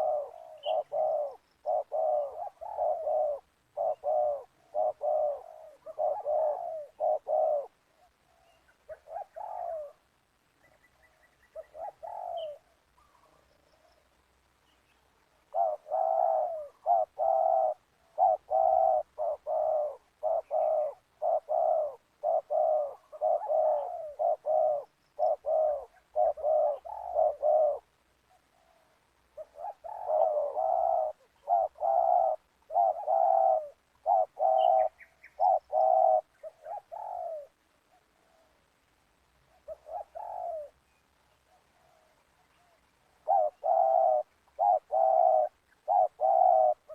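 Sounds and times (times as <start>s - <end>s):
doves cooing: 0.0s - 14.1s, 15.2s - 46.9s.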